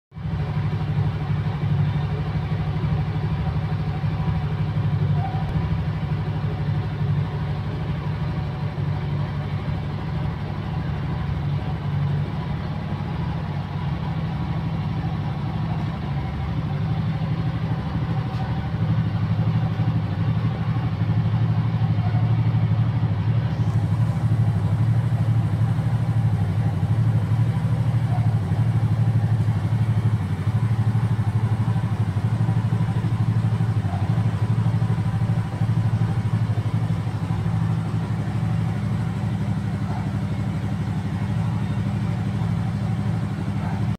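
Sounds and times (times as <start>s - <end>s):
motorcycle engine idling: 0.2s - 43.9s.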